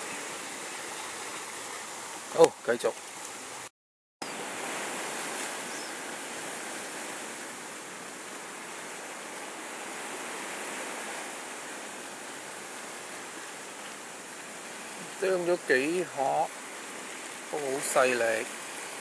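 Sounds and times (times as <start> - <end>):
sea surf on the shore: 0.0 - 19.0.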